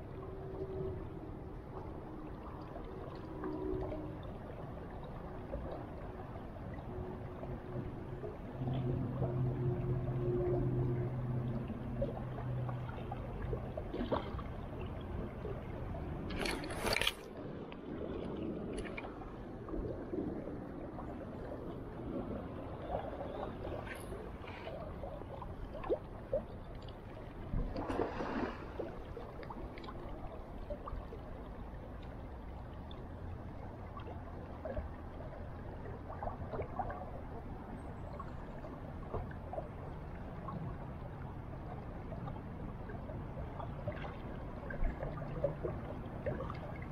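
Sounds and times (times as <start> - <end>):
river water trickling: 0.0 - 46.9.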